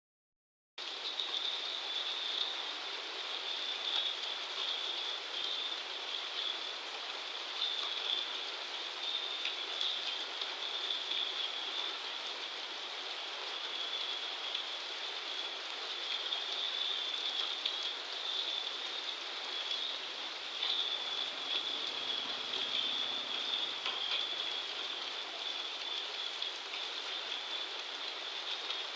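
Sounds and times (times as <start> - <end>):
heavy rain pouring: 0.8 - 28.9.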